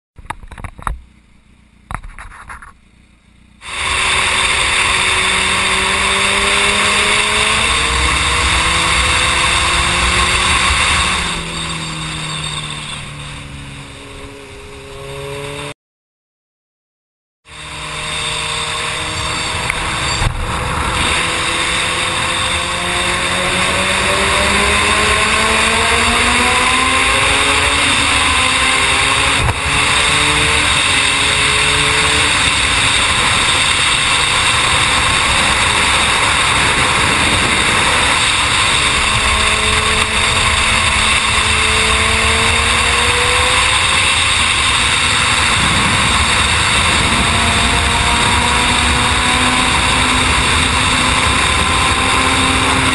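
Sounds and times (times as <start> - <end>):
wind rush: 3.6 - 14.4, 17.5 - 52.9
motorcycle engine pulling hard: 3.6 - 15.7, 17.5 - 52.9.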